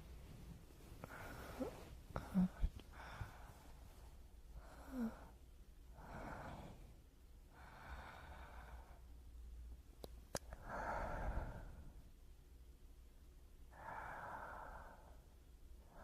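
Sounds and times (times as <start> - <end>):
close breathing: 0.0 - 9.2, 10.5 - 12.2, 13.7 - 16.0.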